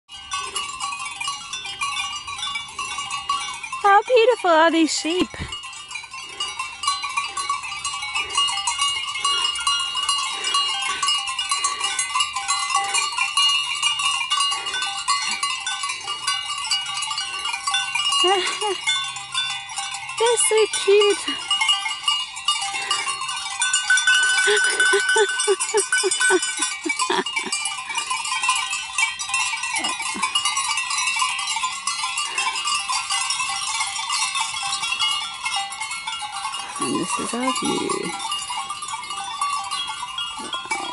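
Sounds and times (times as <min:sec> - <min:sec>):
sheep bells ringing: 0:00.1 - 0:40.9.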